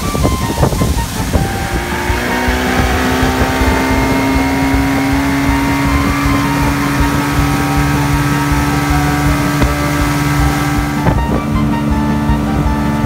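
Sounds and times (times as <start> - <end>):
outboard motor running fast: 0.0 - 13.0
water rushing from boat wake: 0.0 - 13.0.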